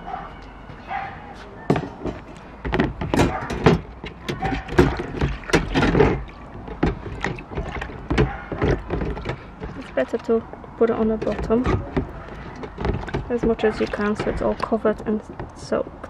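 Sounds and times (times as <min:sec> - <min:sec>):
water sloshing and splashing: 0:02.0 - 0:16.0.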